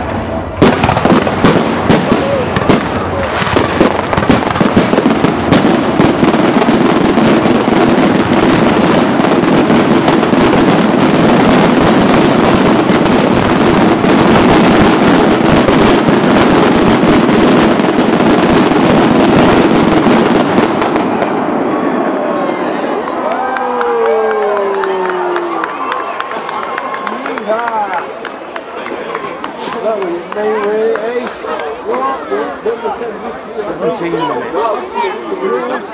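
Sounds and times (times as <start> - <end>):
firework explosions: 0.0 - 35.9.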